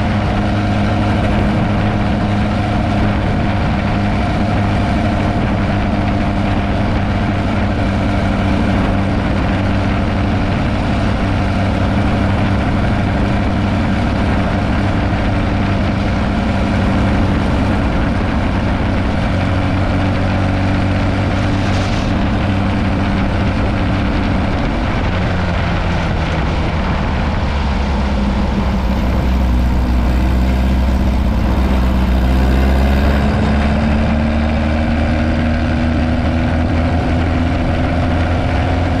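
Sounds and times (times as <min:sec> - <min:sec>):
dune buggy engine running: 0:00.0 - 0:39.0
low rumble: 0:00.0 - 0:39.0.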